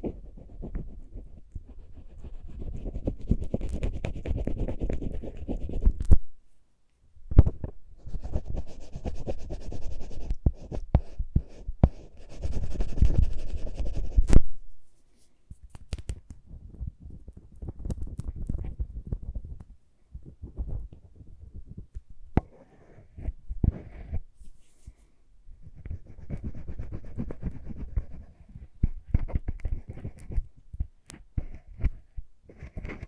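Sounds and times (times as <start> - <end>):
scratchy rubbing: 0.0 - 6.2, 8.0 - 33.0.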